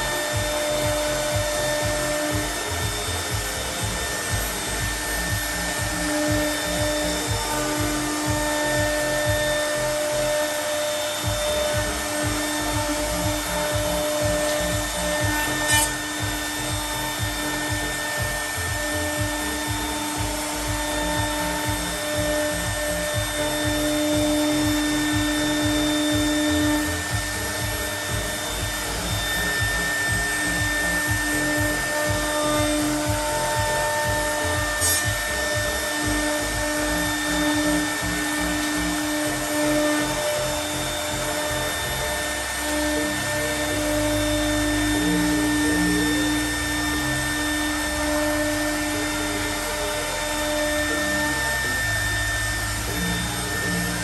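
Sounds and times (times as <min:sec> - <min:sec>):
router spindle milling panel: 0:00.0 - 0:54.0.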